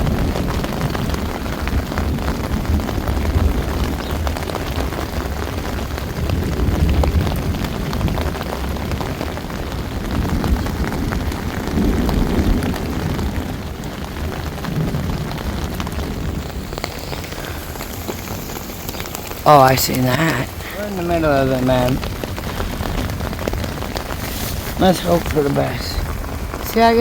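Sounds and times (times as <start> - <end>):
low thunder rumble: 0.0 - 27.0
rain drops ticking: 0.0 - 27.0.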